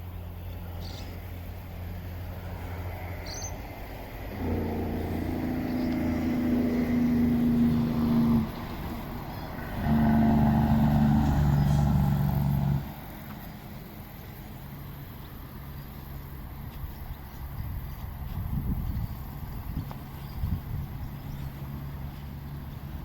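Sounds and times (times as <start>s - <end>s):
motor vehicle engine running: 0.0s - 23.0s.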